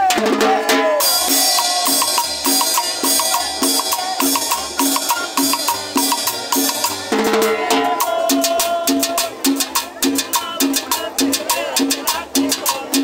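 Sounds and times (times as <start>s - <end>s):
live cumbia band playing: 0.0s - 13.0s.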